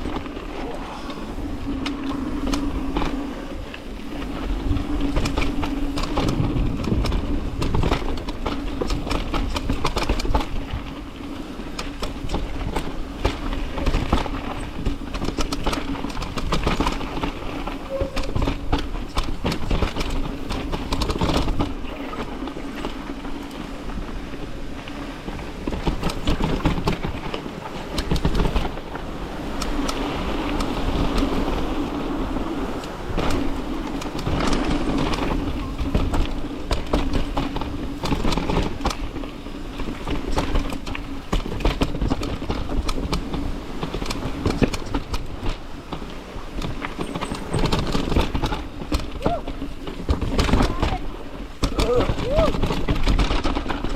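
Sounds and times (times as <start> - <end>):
bike chain and frame rattling: 0.0 - 53.9
bike tyres rolling over gravel: 0.0 - 53.9
wind rumbling on microphone: 0.0 - 53.9.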